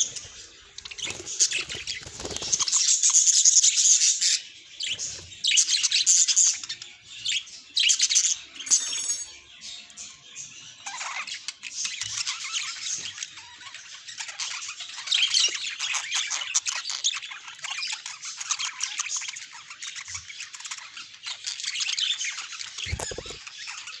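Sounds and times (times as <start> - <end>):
budgerigars chattering and warbling: 0.0 - 8.7, 9.6 - 24.0.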